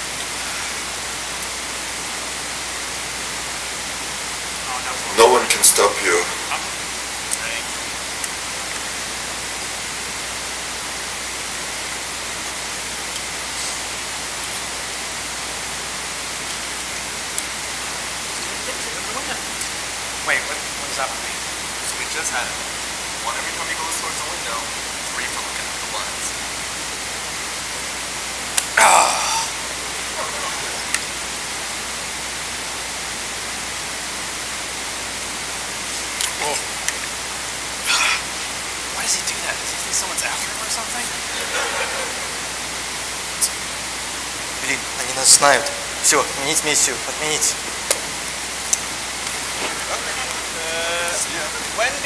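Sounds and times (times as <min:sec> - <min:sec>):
background hiss: 0:00.0 - 0:52.0.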